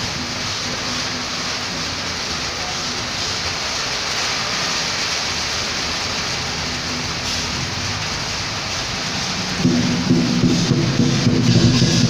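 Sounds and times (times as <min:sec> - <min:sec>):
heavy rain pouring: 0:00.0 - 0:12.0
road traffic hum: 0:00.0 - 0:12.0.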